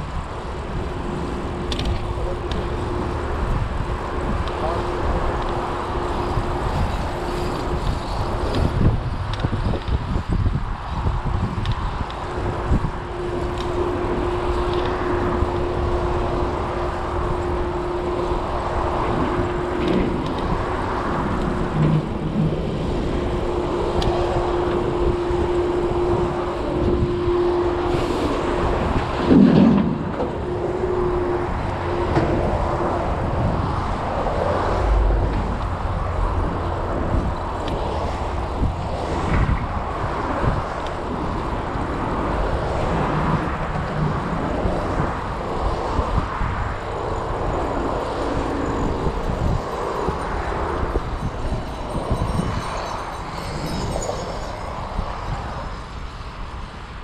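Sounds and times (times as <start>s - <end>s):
passing road traffic: 0.0s - 57.0s
wind buffeting microphone: 0.0s - 57.0s.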